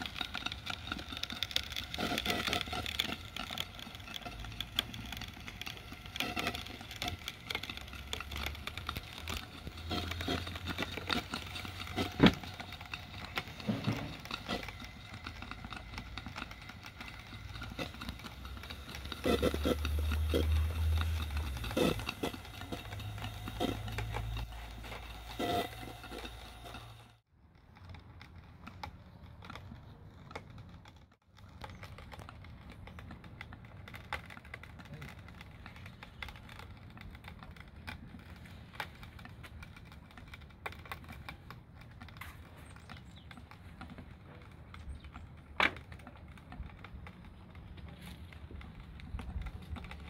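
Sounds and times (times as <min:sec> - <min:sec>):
model steam engine clicking: 0:00.0 - 0:50.0.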